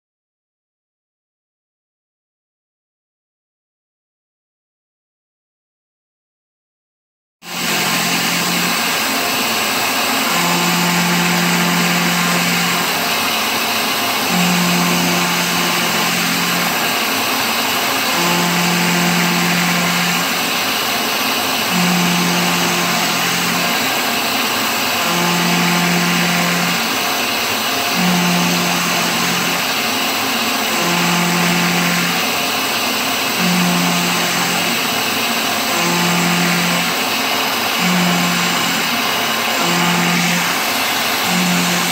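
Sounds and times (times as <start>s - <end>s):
milling machine hissing: 7.5s - 41.9s.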